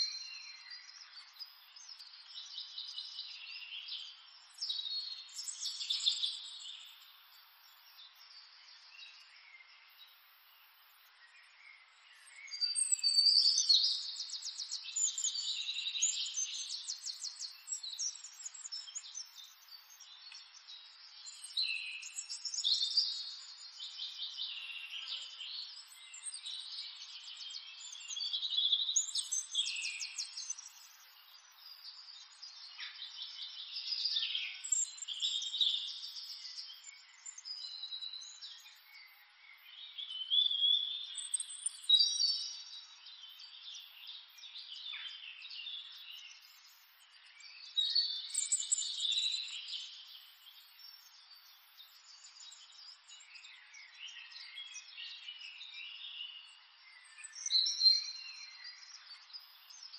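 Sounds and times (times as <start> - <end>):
birds singing chirps and trills: 0.0 - 59.9.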